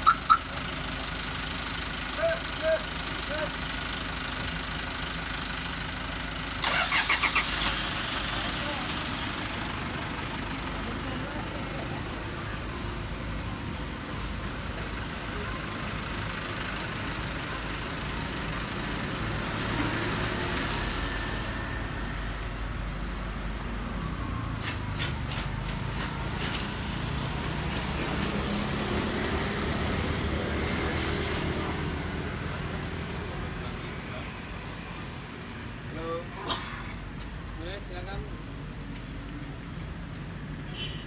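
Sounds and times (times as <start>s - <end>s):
vehicles passing: 0.0s - 41.0s.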